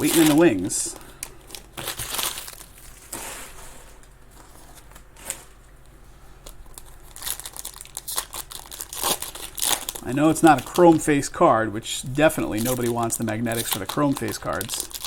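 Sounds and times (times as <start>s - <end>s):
plastic packaging crinkling: 0.0s - 5.7s, 6.4s - 11.4s, 12.2s - 15.0s.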